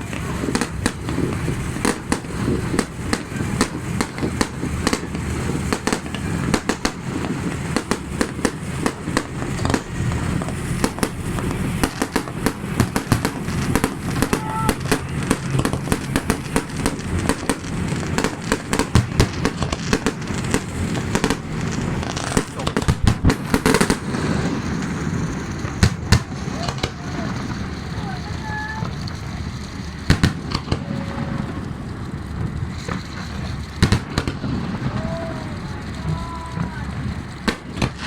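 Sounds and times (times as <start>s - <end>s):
fireworks popping and banging: 0.0s - 38.0s
steady low rumble: 0.0s - 38.0s.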